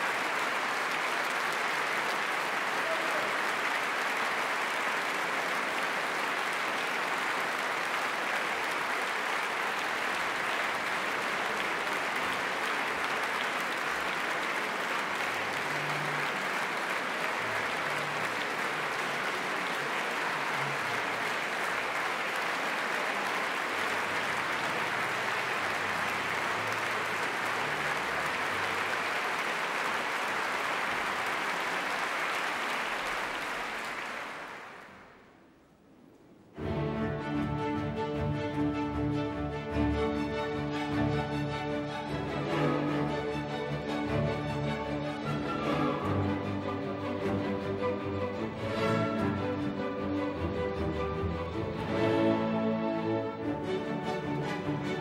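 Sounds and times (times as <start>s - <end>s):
audience applauding: 0.0s - 35.4s, 38.6s - 52.5s, 53.5s - 55.0s.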